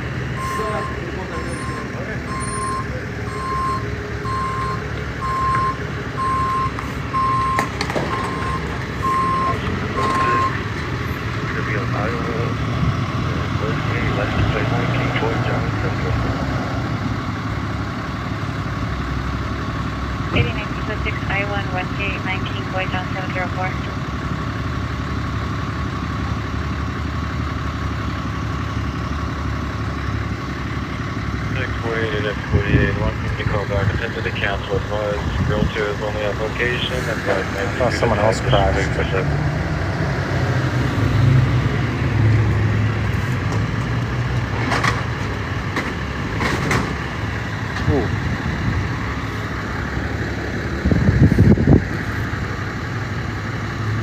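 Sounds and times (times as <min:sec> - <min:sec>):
vehicle engine idling: 0:00.0 - 0:54.0
rough rumble: 0:05.8 - 0:54.0.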